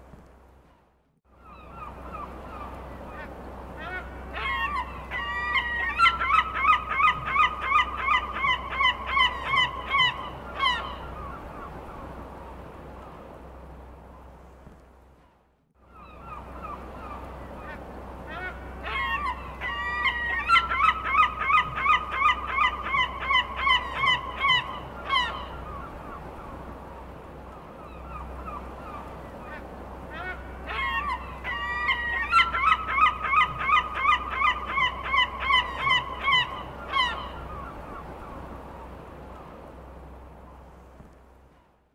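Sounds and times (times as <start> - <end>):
low background noise: 0.0 - 41.9
gulls calling: 1.4 - 13.2, 15.9 - 41.8.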